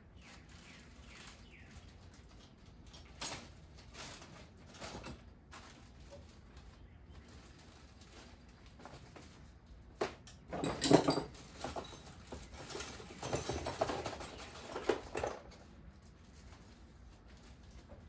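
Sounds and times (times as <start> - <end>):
parts rustling and knocking: 1.2 - 18.0.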